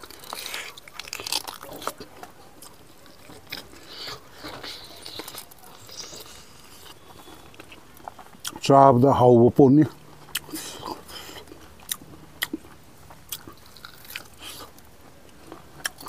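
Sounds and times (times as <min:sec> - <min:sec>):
man chewing: 0:00.0 - 0:09.0, 0:09.8 - 0:16.0.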